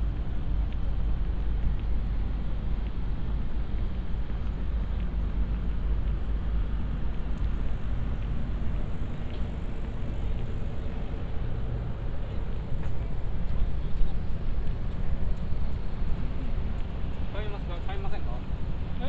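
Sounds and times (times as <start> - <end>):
city background rumble: 0.0 - 19.0.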